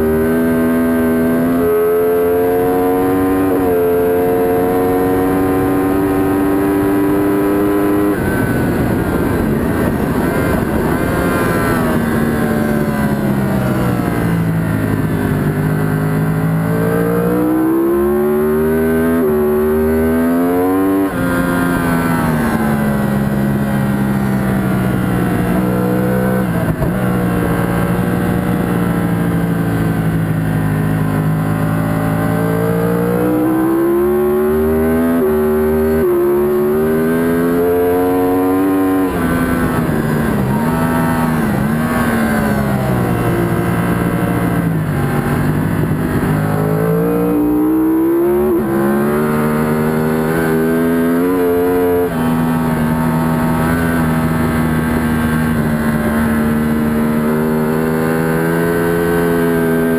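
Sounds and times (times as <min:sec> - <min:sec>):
motorcycle engine revving: 0:00.0 - 0:59.9
wind noise: 0:04.7 - 0:59.0.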